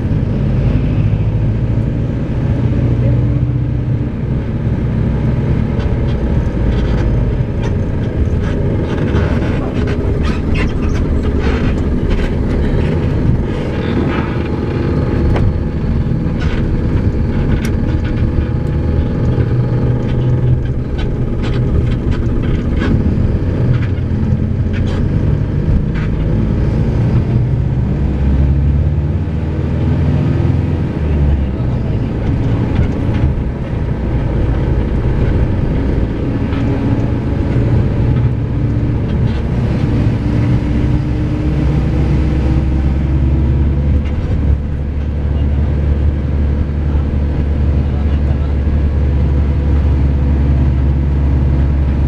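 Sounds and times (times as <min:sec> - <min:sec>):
bus diesel engine drone: 0:00.0 - 0:52.0.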